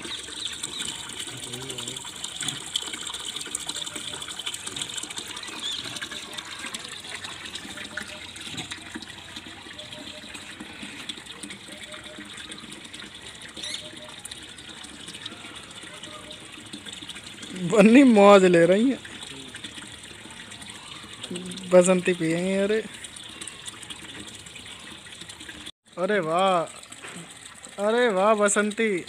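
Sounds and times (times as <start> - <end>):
hose water filling tank: 0.0 - 29.0.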